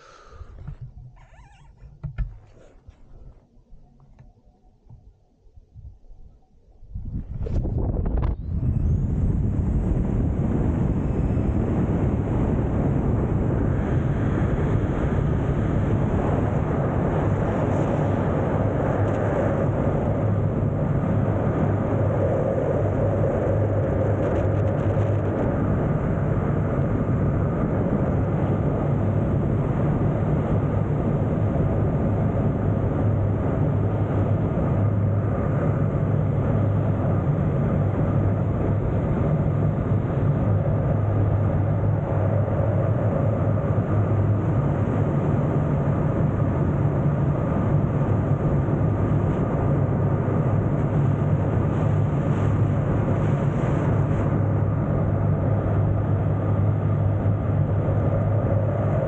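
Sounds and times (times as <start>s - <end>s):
wind rushing over microphone: 5.6s - 59.0s.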